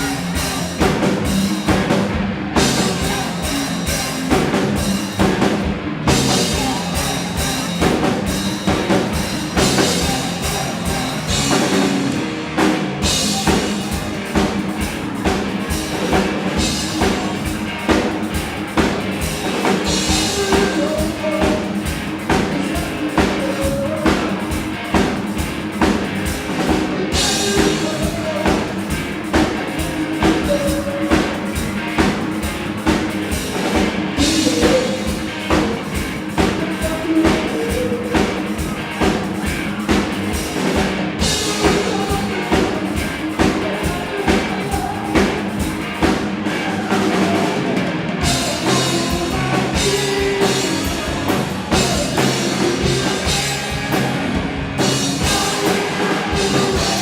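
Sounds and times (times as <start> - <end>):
drum kit fast beat: 0.0 - 57.0
electric guitars: 0.0 - 57.0.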